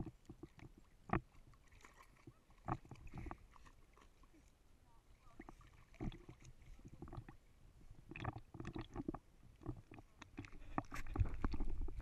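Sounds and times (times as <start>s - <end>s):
sea water splashing: 0.0s - 12.0s.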